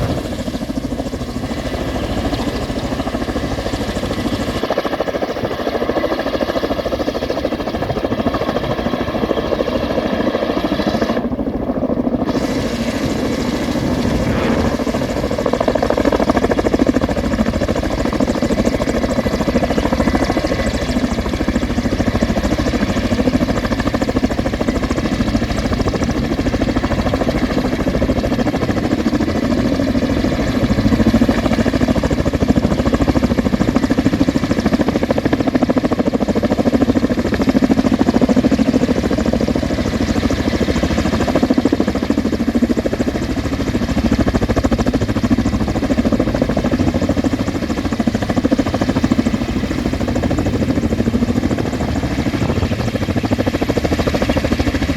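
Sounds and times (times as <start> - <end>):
helicopter engine and rotor drone: 0.0 - 54.9.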